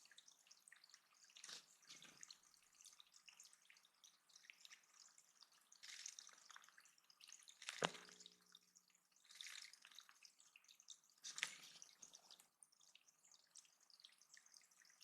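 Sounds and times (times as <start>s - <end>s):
water dripping and splashing: 0.0s - 15.0s.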